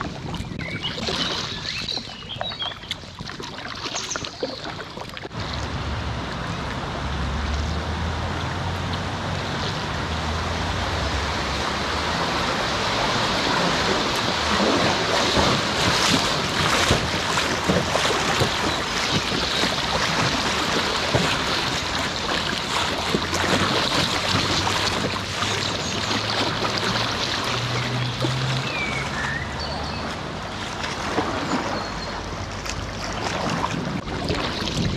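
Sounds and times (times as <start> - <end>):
river water rushing and splashing: 0.0 - 34.9.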